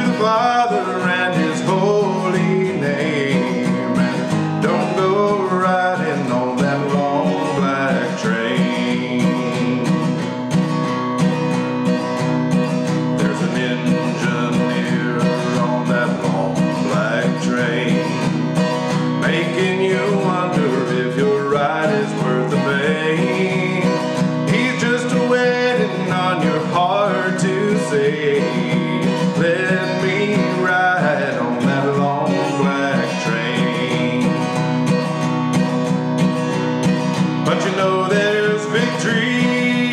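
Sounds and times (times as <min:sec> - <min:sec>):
acoustic guitar strumming: 0:00.0 - 0:39.9
man singing a country song: 0:00.0 - 0:39.9.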